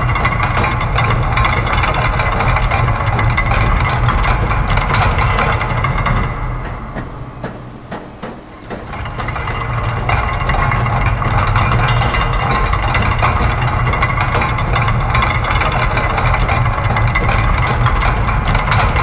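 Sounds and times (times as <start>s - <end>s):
clicking gears and ratchets: 0.0s - 7.1s, 8.6s - 19.0s
low mechanical hum: 0.0s - 19.0s.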